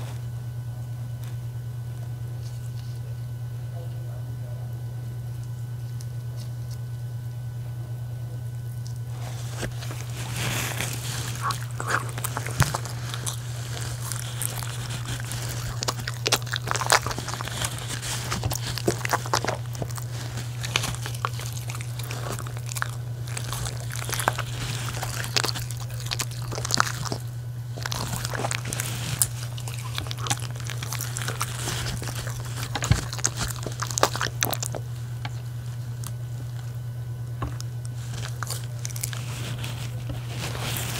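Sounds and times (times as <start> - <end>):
dogs chewing and crunching: 0.0 - 3.3, 5.0 - 7.3, 7.9 - 40.9
steady low hum: 0.0 - 40.9.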